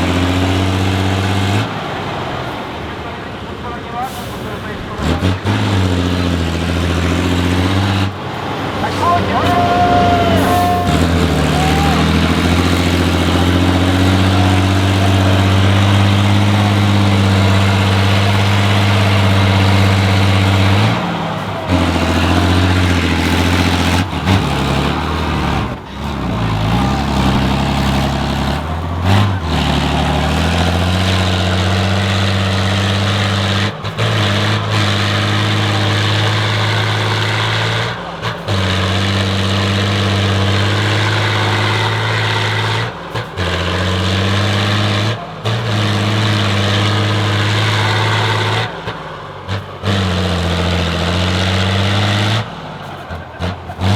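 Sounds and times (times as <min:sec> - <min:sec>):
truck engine running: 0:00.0 - 0:53.9.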